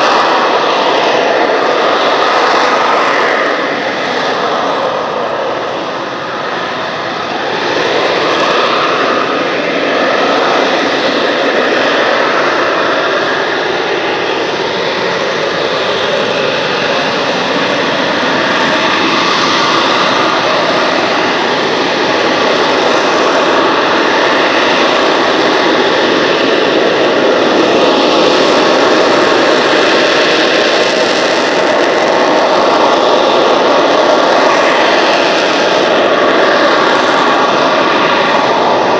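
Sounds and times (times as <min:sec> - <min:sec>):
jet engine running: 0:00.0 - 0:38.9.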